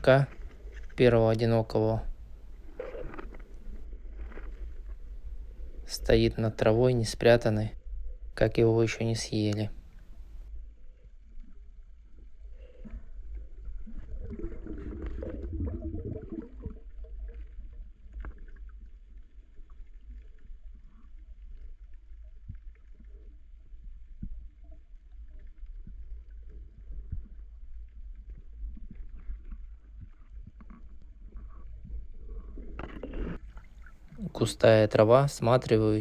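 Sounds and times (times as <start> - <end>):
underwater rumble of moving water: 0.0 - 36.0.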